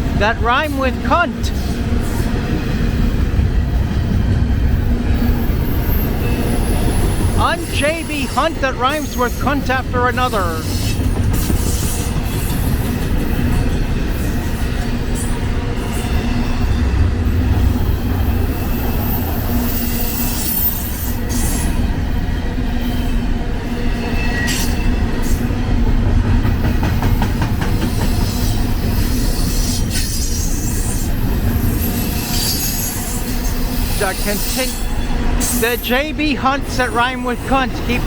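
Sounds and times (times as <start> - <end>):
train cars clanking: 0.0 - 23.2, 23.8 - 38.0
train wheels rumbling on rail: 0.0 - 38.0.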